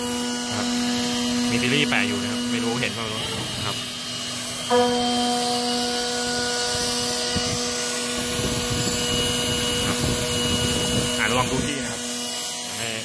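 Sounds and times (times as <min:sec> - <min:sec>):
high thin tone: 0:00.0 - 0:13.0
router spindle whine: 0:00.0 - 0:13.0.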